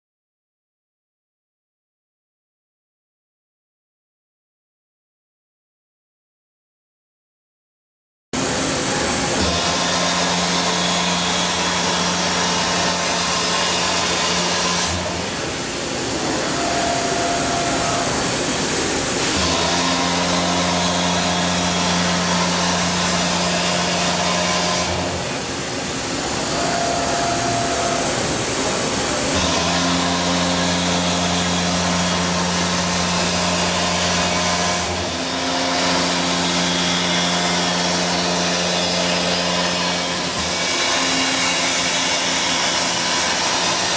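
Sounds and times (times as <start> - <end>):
mill cutting hum: 8.4 - 43.9.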